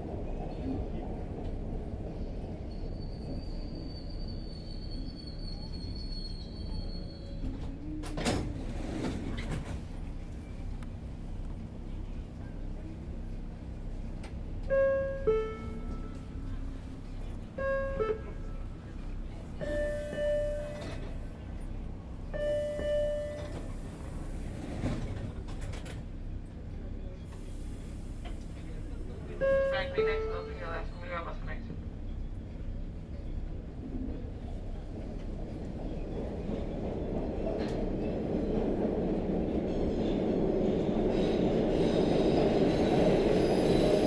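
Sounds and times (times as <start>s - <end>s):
subway train rumbling: 0.0s - 44.0s.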